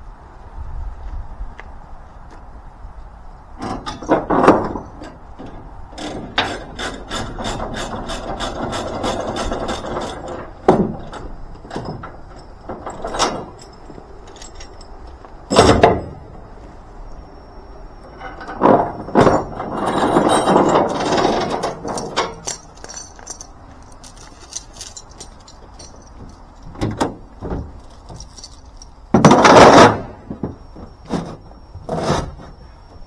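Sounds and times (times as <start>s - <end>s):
metal knocks and clanks: 3.6s - 16.4s, 18.1s - 32.5s.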